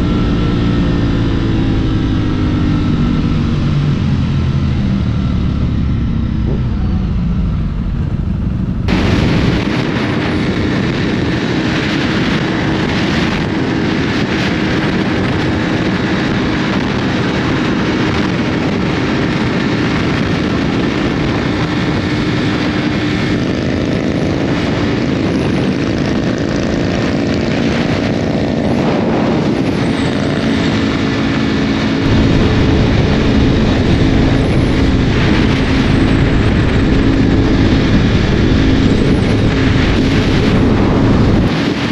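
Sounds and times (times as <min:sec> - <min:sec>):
motorcycle engine revving: 0:00.0 - 0:41.9
wind noise: 0:00.0 - 0:41.9.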